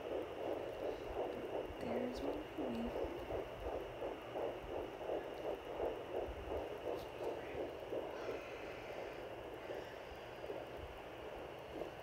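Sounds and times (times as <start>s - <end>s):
fetal heartbeat whooshing pulses: 0.0s - 12.0s.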